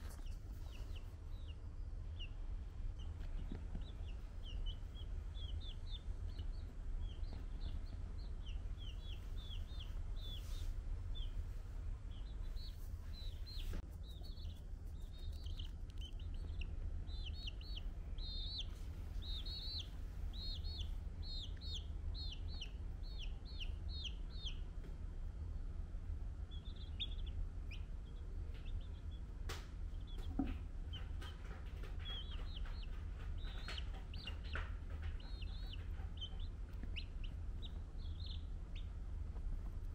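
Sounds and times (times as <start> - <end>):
baby chick peeping: 0.0 - 39.9.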